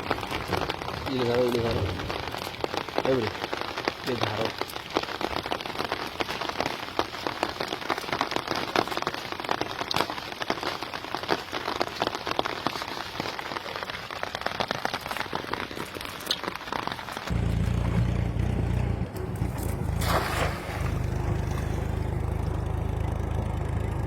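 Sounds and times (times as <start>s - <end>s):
steady rain falling: 0.0s - 19.9s.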